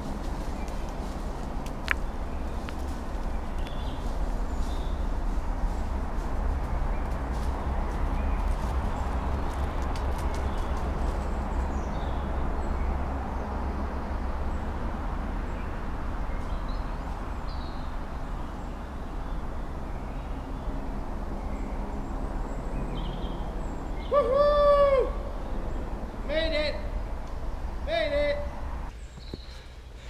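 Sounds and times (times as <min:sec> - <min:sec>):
low rumble: 0:00.0 - 0:28.9.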